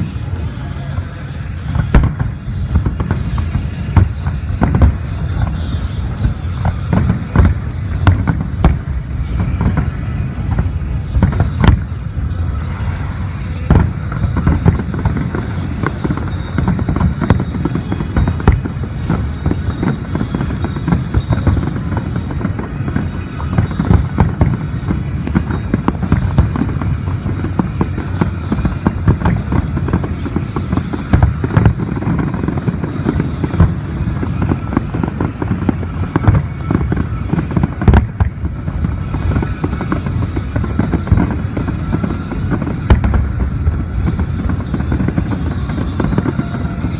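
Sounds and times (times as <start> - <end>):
fireworks booming and crackling: 0.0 - 46.9
music playing: 0.0 - 46.9.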